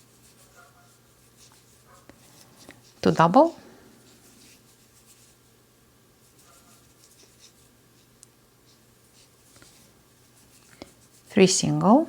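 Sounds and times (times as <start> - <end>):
low steady hum: 0.0 - 12.0
rustling of yarn and crochet hook: 0.0 - 12.0.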